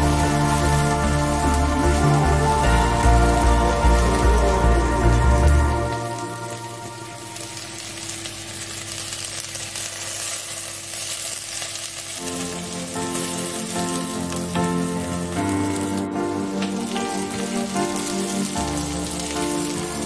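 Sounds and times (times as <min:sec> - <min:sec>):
background music: 0:00.0 - 0:08.6, 0:12.2 - 0:20.0
onions sizzling in a pan: 0:00.0 - 0:20.0.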